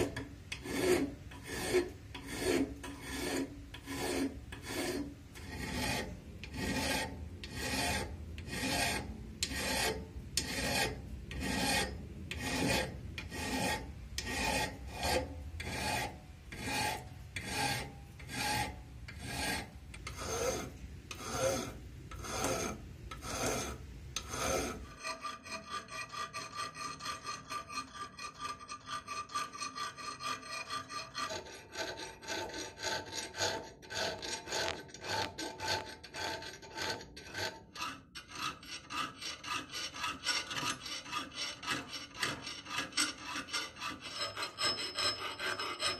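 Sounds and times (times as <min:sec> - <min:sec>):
file rasping on steel: 0:00.0 - 0:45.9.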